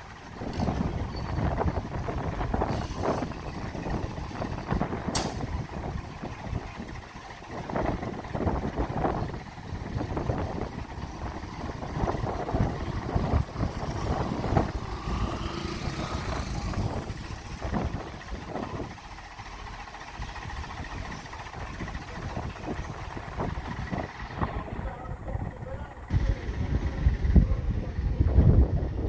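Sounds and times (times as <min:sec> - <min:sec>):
engine rumbling with knocks: 0:00.0 - 0:29.0.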